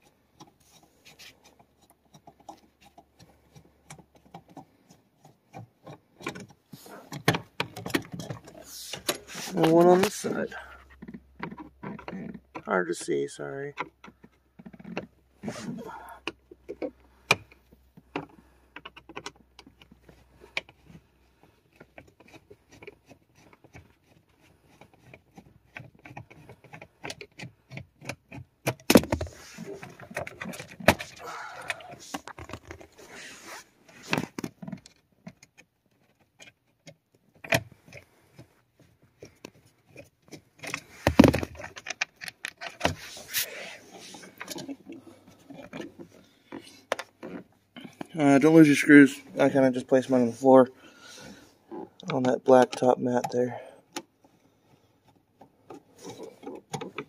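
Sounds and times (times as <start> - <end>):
screws and plastic trim rattling: 0.3 - 13.1, 13.7 - 33.2, 34.0 - 48.9, 52.0 - 57.0.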